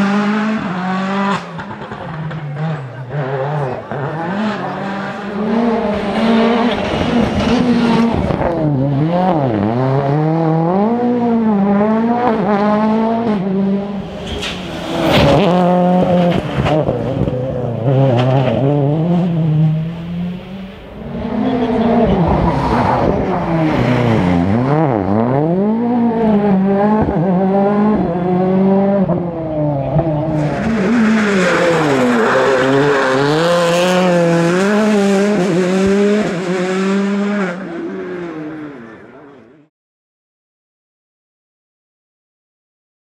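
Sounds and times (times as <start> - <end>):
rally car engine revving: 0.0 - 39.7.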